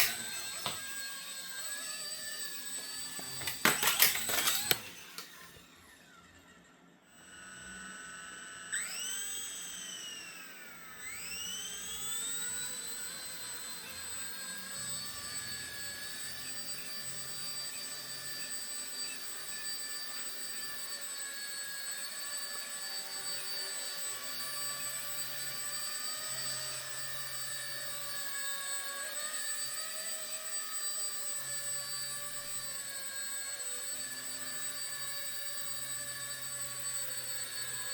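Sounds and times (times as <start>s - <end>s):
helicopter motor whine: 0.0s - 37.9s.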